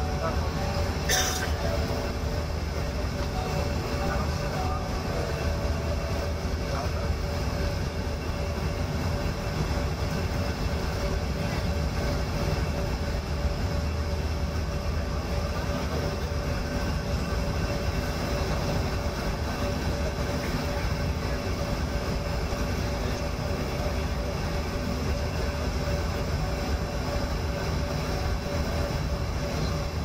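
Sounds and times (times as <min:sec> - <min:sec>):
airliner engines running: 0:00.0 - 0:30.0
steady humming tones: 0:00.0 - 0:30.0.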